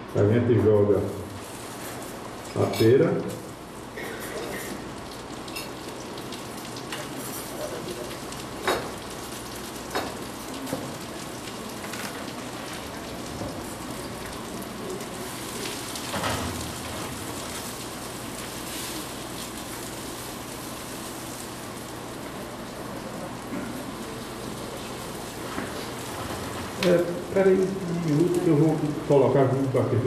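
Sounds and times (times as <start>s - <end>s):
fruit sizzling in butter in a pan: 1.1s - 30.0s.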